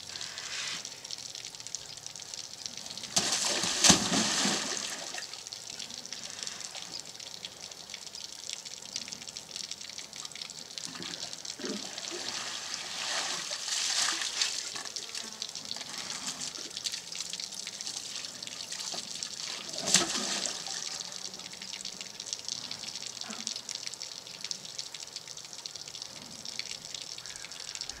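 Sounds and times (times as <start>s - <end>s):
running water rushing: 0.0s - 8.4s, 9.0s - 23.7s.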